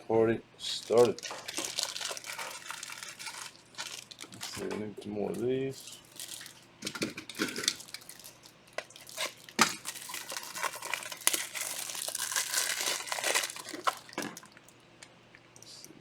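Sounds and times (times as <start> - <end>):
plastic wrapping crinkling: 0.7 - 14.7.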